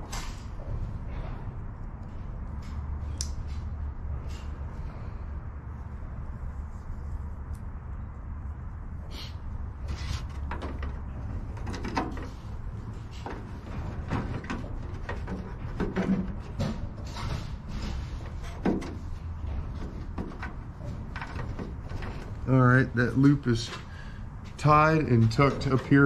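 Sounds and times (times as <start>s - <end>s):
low steady rumble: 0.6s - 26.0s.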